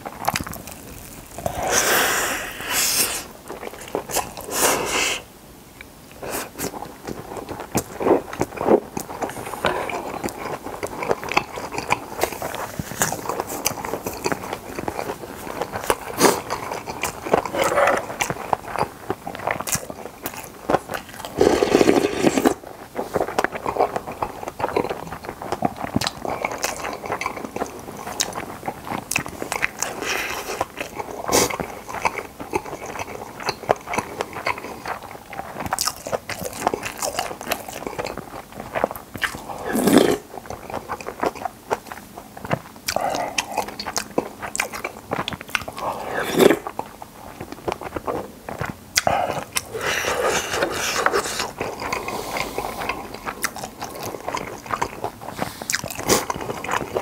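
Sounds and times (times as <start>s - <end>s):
wet chewing and biting: 0.0s - 1.9s, 6.6s - 57.0s.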